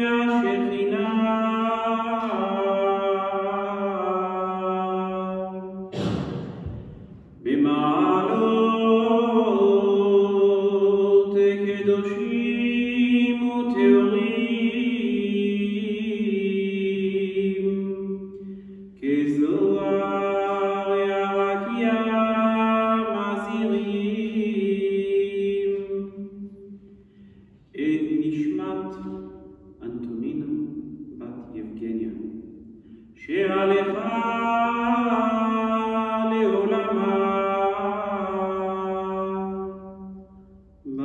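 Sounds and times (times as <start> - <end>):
man chanting: 0.0 - 5.8, 7.4 - 18.1, 19.0 - 26.1, 27.7 - 32.4, 33.2 - 40.0.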